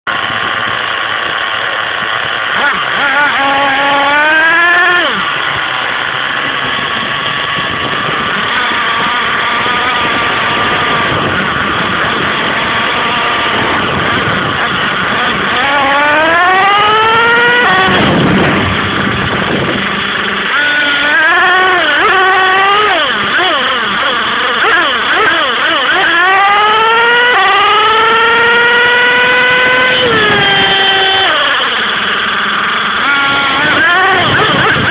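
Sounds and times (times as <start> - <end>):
kart engine revving: 0.0 - 34.9
wind and track noise: 0.1 - 34.9.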